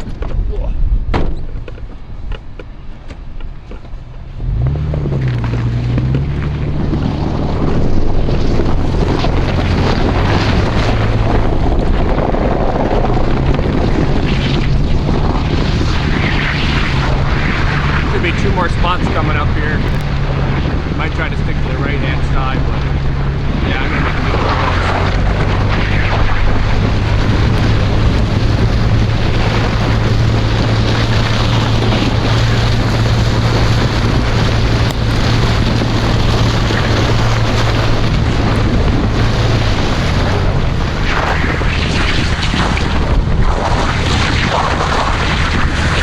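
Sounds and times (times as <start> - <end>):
road and wind noise: 0.0 - 46.0
car engine running: 1.4 - 46.0.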